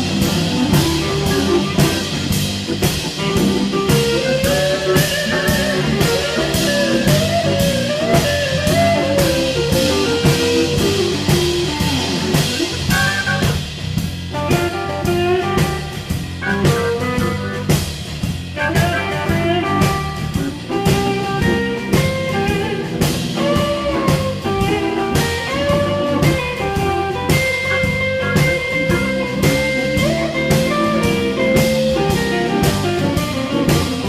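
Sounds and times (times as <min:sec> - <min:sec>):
drum kit beat: 0:00.0 - 0:34.0
electric guitar: 0:00.0 - 0:34.0
organ: 0:00.0 - 0:34.0.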